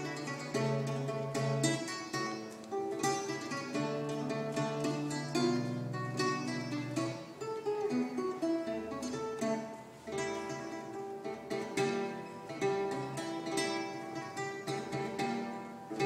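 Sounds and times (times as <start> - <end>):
fingerstyle classical guitar: 0.0 - 16.0.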